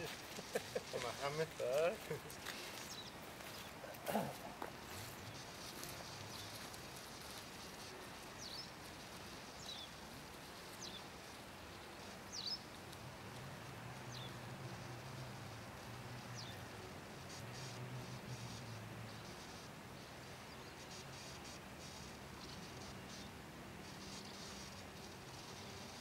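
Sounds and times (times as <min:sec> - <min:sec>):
faint outdoor background noise: 0:00.0 - 0:26.0.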